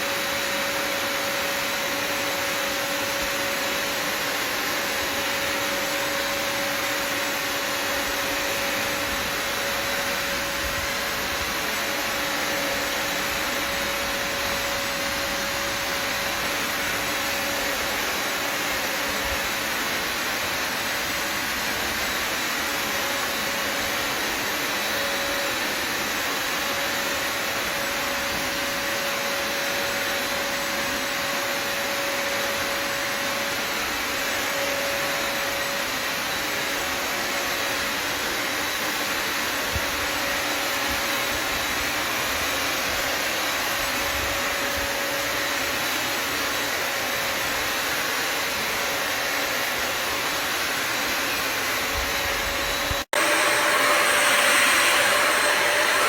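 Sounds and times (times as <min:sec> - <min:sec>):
vacuum motor hiss and whine: 0:00.0 - 0:56.0.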